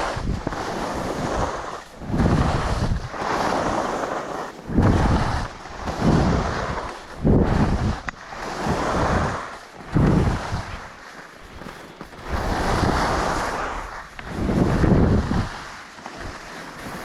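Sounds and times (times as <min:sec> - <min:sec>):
skis scraping across snow: 0:00.0 - 0:17.0
wind buffeting microphone: 0:00.0 - 0:17.0.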